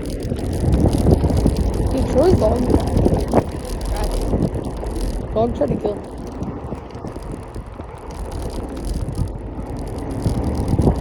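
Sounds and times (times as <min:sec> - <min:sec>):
low rumble: 0:00.0 - 0:11.0
wind rushing over microphone: 0:00.0 - 0:11.0.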